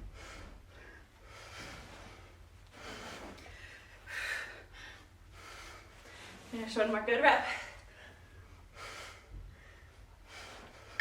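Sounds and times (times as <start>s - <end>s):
person breathing hard: 0.0s - 6.5s, 7.7s - 11.0s.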